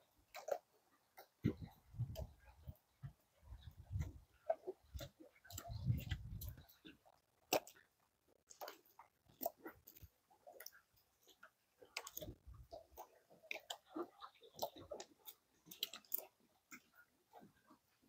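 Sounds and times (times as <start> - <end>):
faint clicks and ticks: 0.0 - 18.0.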